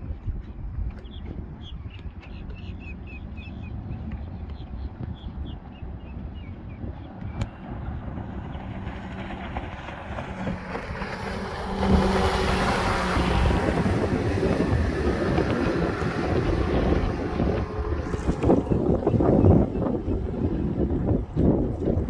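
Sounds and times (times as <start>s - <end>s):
outboard engine drone: 0.0s - 22.0s
water from boat wake: 0.0s - 22.0s
wind rushing on microphone: 0.0s - 22.0s.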